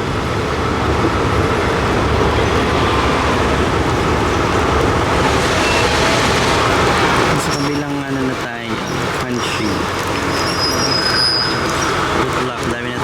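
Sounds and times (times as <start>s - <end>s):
passenger train rumbling and rattling: 0.0s - 13.0s.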